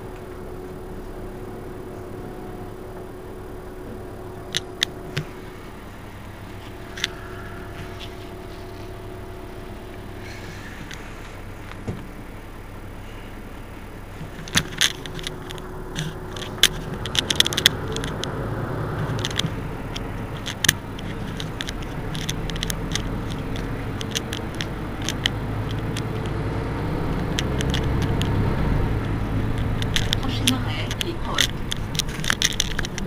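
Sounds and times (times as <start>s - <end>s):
bus engine idling: 0.0s - 33.0s
sharp clicks and rattles: 0.0s - 33.0s.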